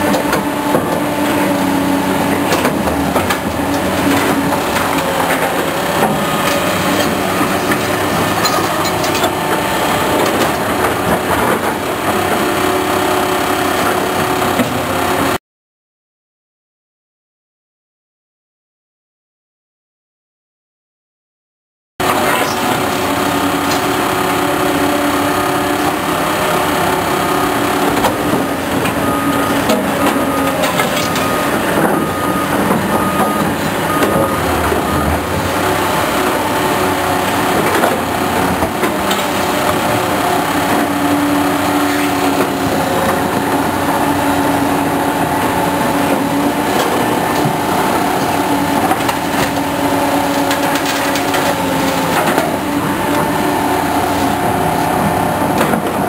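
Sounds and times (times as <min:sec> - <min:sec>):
excavator diesel engine drone: 0:00.0 - 0:15.4, 0:22.0 - 0:56.0.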